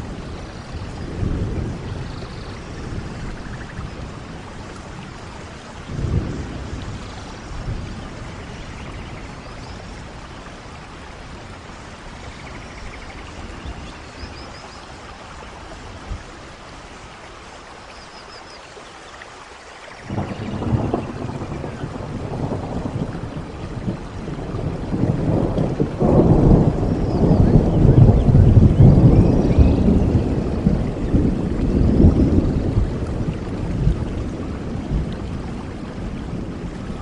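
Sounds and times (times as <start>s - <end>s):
thunder rumble: 0.0s - 14.6s, 20.0s - 37.0s
steady rain: 0.0s - 37.0s.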